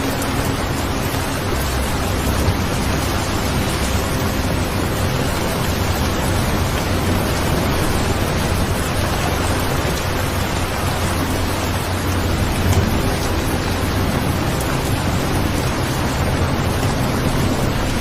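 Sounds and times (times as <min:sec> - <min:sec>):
hiss of falling rain: 0:00.0 - 0:18.0
low rumble: 0:00.0 - 0:18.0.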